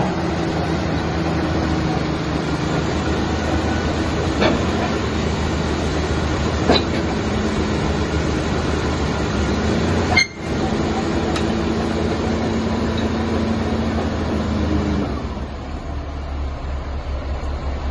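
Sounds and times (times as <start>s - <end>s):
bulldozer diesel engine droning: 0.0s - 17.9s.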